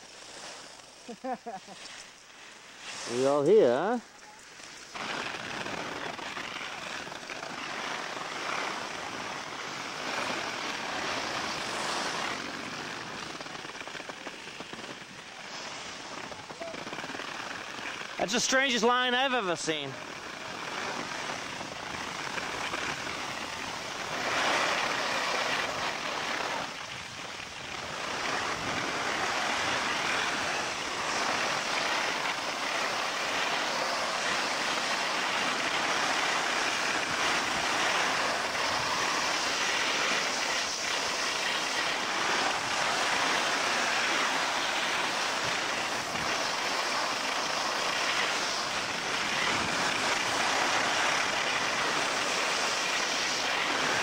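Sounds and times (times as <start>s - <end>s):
skis scraping over snow: 0.0s - 54.0s.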